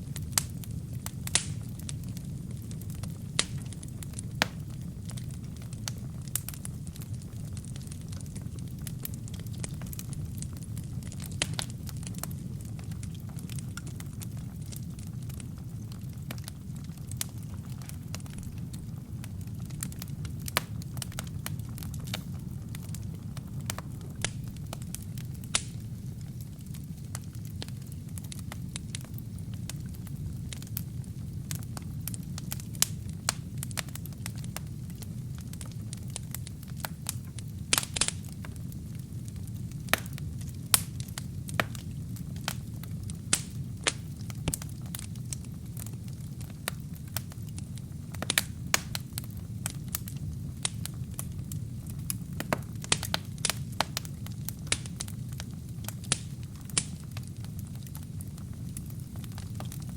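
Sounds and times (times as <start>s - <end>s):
low rumble of flame: 0.0s - 59.9s
wood fire crackling and popping: 0.0s - 59.9s.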